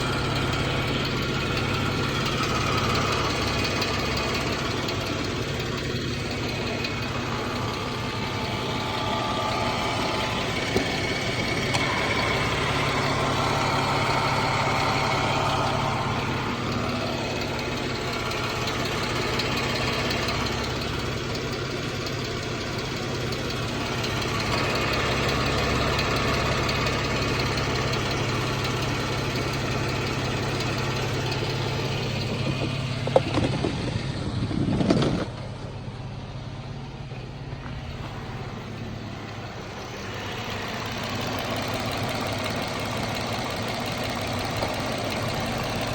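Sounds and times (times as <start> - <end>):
car engine idling: 0.0 - 45.9
rapid engine ticking: 0.0 - 45.9.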